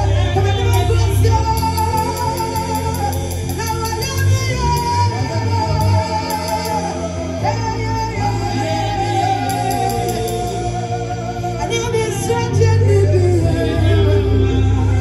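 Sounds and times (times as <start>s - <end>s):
band with steady bass: 0.0s - 15.0s
person singing long notes: 0.0s - 15.0s.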